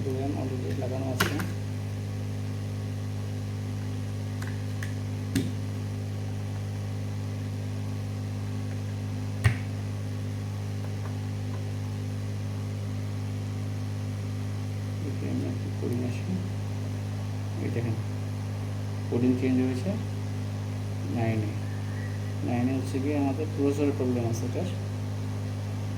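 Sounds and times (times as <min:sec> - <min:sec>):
low electrical hum: 0:00.0 - 0:25.9.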